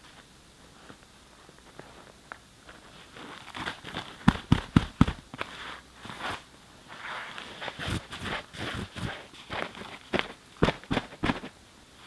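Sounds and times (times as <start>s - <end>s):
sleeping pad rustling: 0.0s - 11.6s.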